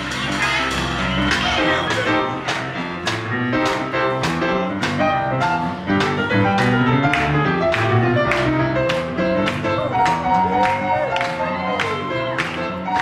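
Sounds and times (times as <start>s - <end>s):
live jazz band playing: 0.0s - 13.0s.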